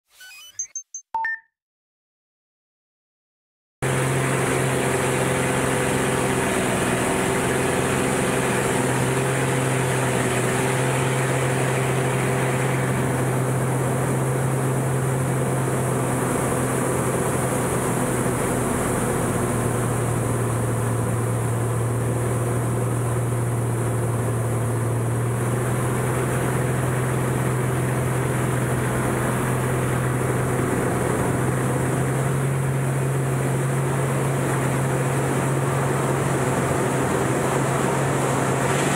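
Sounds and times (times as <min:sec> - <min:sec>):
propeller engine drone: 0:03.8 - 0:38.9.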